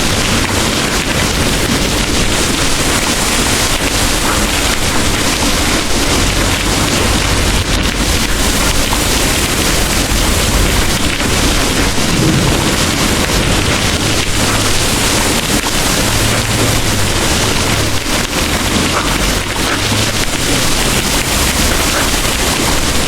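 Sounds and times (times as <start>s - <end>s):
distant thunder rumble: 0.0s - 23.0s
heavy rain pouring: 0.0s - 23.0s.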